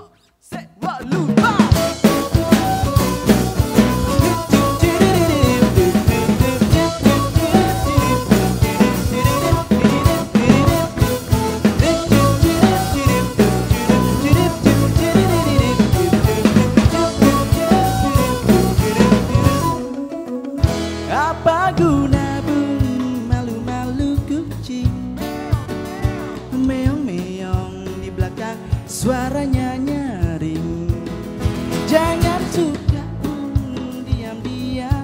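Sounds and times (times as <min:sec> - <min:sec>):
drum kit beat: 0:00.6 - 0:35.0
band playing instrumental: 0:01.1 - 0:35.0.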